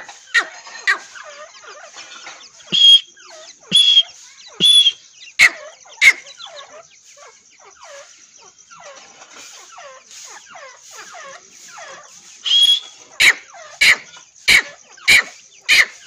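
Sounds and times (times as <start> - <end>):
chicks chirping softly: 0.0 - 16.0
partridge harsh calls: 0.0 - 16.0.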